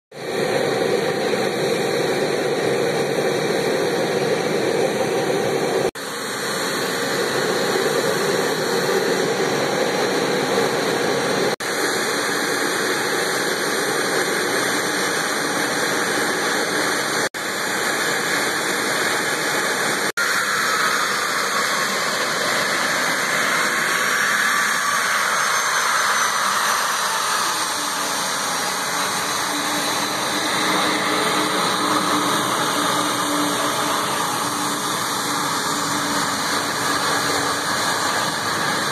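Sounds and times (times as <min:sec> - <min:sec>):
jet engines running: 0:00.1 - 0:38.9.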